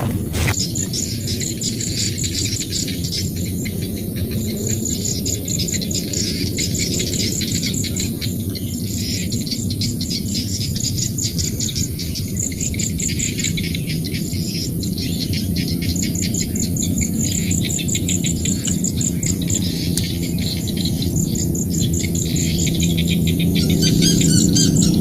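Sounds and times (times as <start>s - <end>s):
bird calls: 0.0s - 25.0s
insects chirping: 0.0s - 25.0s
frogs chorus: 0.4s - 25.0s.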